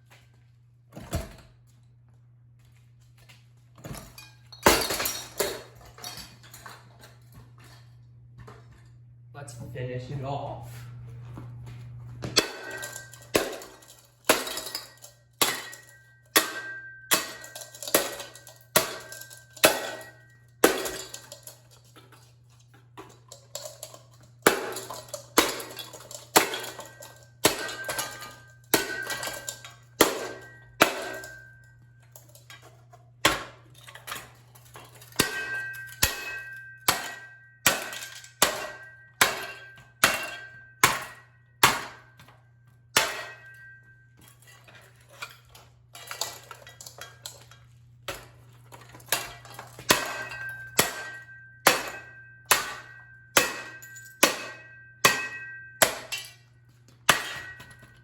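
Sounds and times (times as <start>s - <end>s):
metal clangs from smashing blows: 3.9s - 7.8s, 12.4s - 22.3s, 23.0s - 58.0s.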